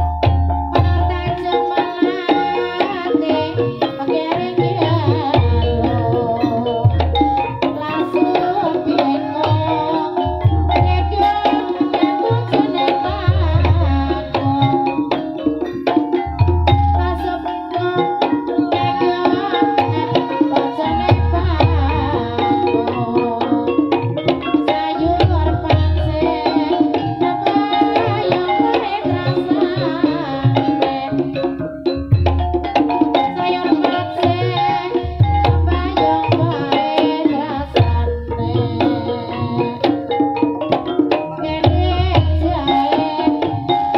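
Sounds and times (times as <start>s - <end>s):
gamelan music: 0.0s - 43.9s
hand drums beating: 0.0s - 43.9s
ringing metallophone tones: 0.0s - 43.9s
person singing: 0.8s - 15.2s, 17.0s - 31.5s, 33.2s - 40.1s, 41.2s - 43.9s.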